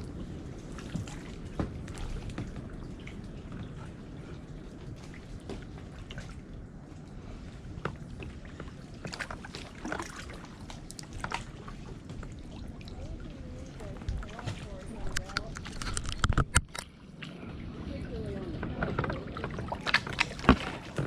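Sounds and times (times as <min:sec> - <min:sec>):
paddle splashing water: 0:00.0 - 0:21.0
steady low rumble: 0:00.0 - 0:21.0.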